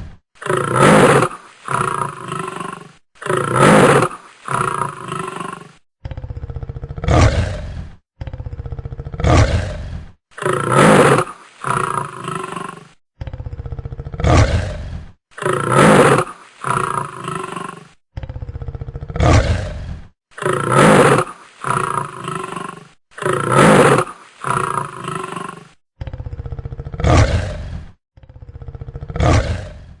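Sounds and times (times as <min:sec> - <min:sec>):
big cats roaring: 0:00.4 - 0:30.0.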